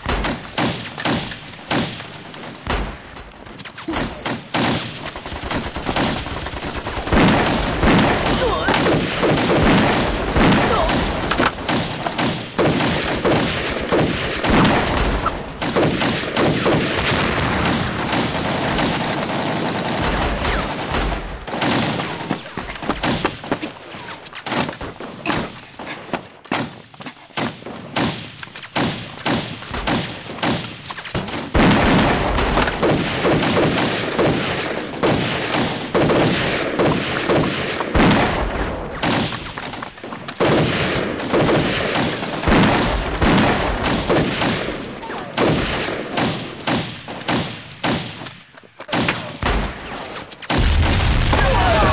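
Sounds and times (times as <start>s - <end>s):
gunfire: 0.0s - 23.8s, 26.5s - 51.9s.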